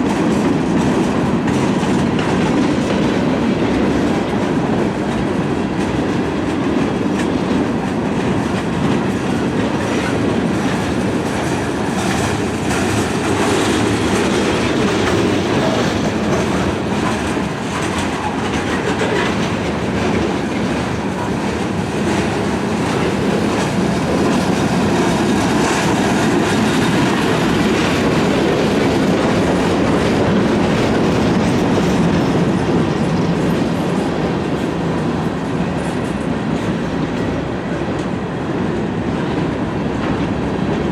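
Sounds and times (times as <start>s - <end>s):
freight train rolling: 0.0s - 40.9s.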